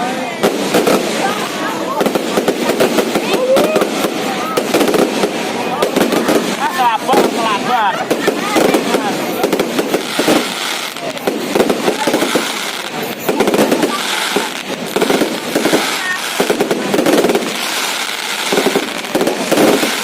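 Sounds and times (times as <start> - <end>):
fireworks popping and crackling: 0.0 - 20.0.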